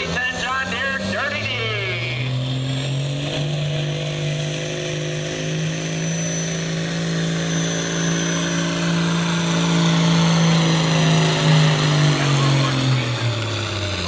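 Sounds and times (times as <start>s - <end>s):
tractor diesel engine at high revs: 0.0s - 14.0s.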